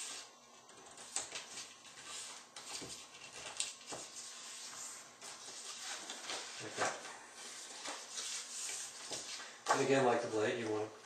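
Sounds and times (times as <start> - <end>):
paper being folded and creased: 0.0 - 9.4.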